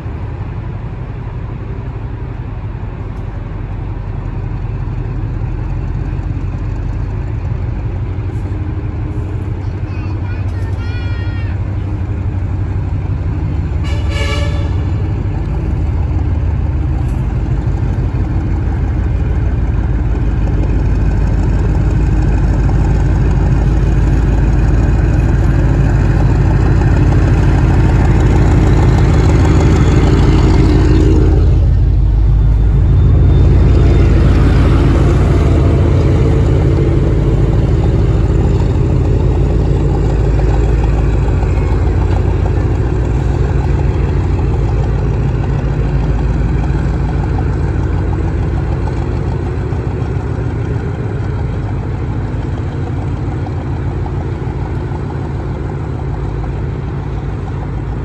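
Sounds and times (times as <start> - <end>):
train heavy low rumble: 0.0 - 58.0.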